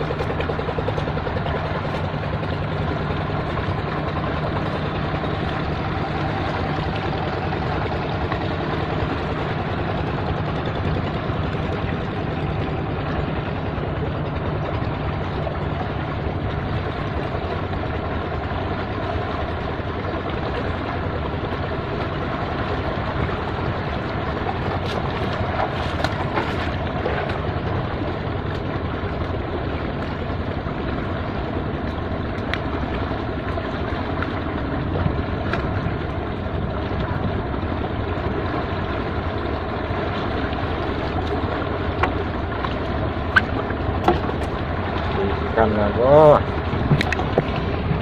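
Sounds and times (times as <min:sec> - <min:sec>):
sea water washing over rubble: 0:00.0 - 0:48.0.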